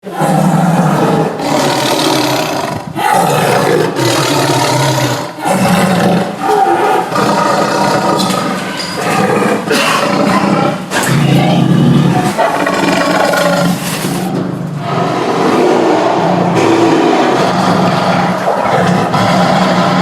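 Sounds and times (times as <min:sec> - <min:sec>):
tiger growling and snarling: 0:00.0 - 0:20.0.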